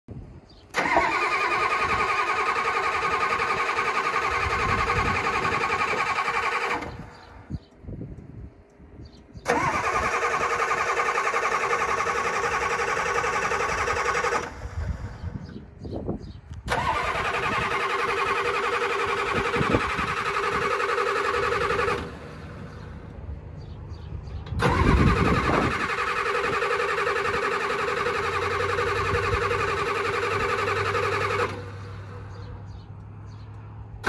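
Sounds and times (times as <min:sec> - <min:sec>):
diesel engine starter cranking: 0:00.5 - 0:07.8, 0:09.4 - 0:15.6, 0:16.5 - 0:32.9.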